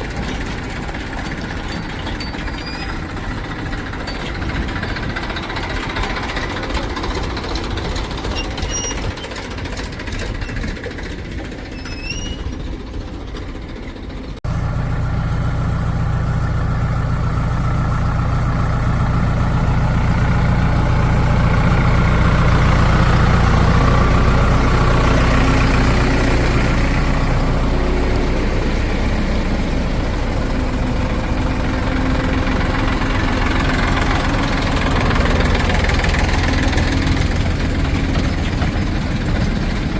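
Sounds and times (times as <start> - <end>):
deep diesel engine running: 0.0 - 39.9
diesel engine knocking: 0.0 - 39.9.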